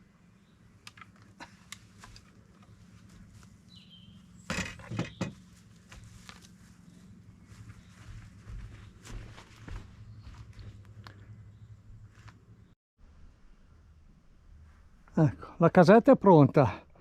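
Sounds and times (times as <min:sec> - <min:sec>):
low steady hum: 0:00.0 - 0:15.6.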